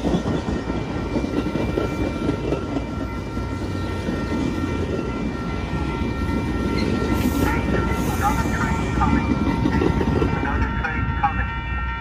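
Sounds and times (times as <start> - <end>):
train wheels rumbling on rails: 0.0 - 11.7.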